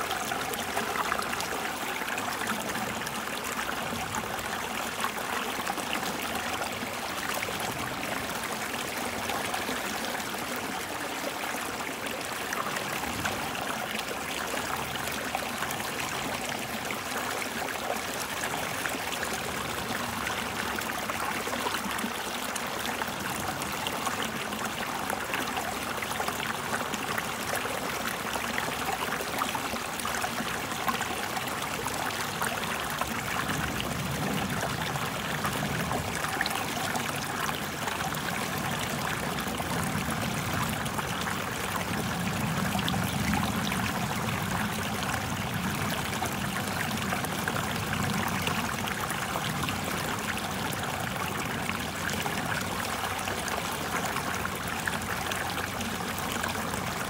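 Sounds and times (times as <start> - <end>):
water rushing and splashing over rocks: 0.0 - 57.0.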